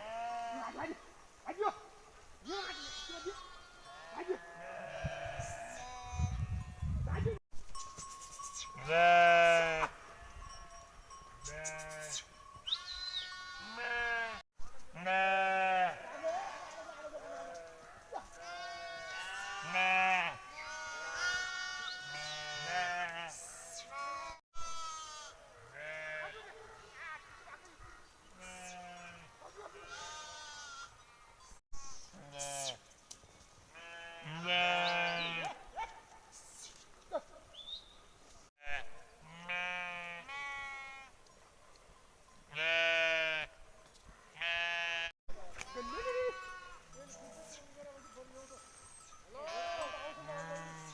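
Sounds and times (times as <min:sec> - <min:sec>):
sheep and goats bleating: 0:00.0 - 0:01.8, 0:02.4 - 0:07.3, 0:08.1 - 0:32.9, 0:33.7 - 0:35.8, 0:38.6 - 0:41.2, 0:42.5 - 0:43.6, 0:44.3 - 0:50.9.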